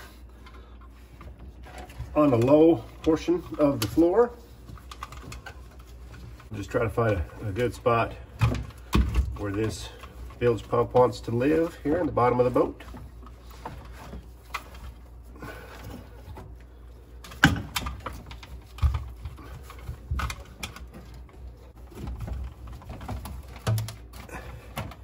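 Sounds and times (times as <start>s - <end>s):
plastic pump handling noise: 0.3s - 25.0s.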